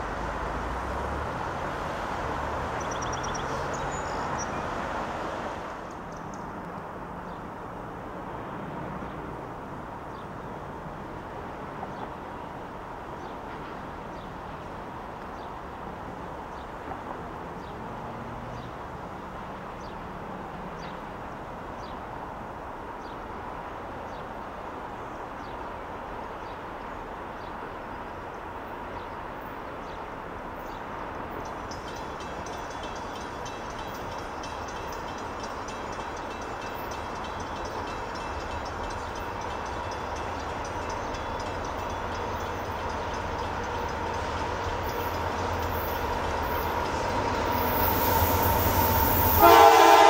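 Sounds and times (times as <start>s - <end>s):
freight train rumble: 0.0s - 50.0s.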